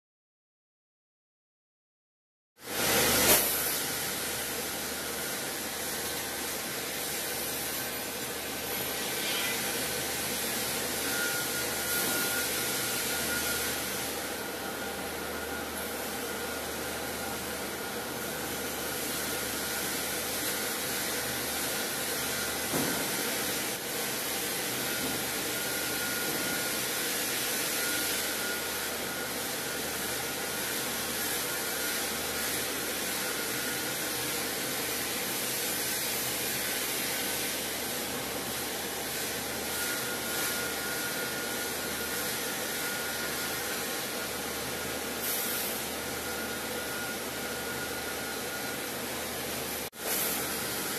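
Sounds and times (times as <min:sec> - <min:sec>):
saw machinery whirring hum: 0:02.8 - 0:50.9.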